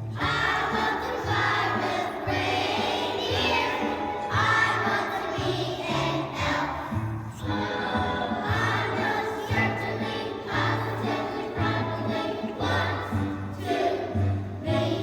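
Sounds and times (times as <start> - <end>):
children's choir singing: 0.0 - 15.0
instrumental accompaniment: 0.0 - 15.0.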